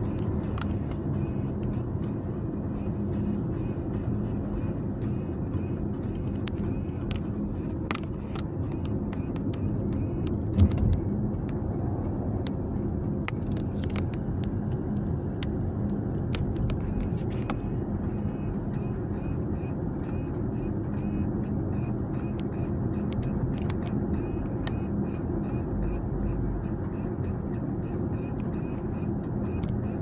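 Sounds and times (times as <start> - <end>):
vent actuator buzzing and clicking: 0.0 - 3.4, 5.0 - 30.0
moving car drone: 0.0 - 30.0.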